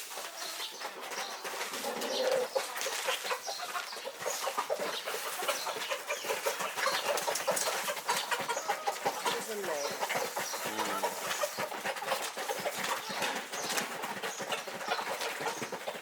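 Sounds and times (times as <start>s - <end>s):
chicken calls: 0.0s - 16.0s.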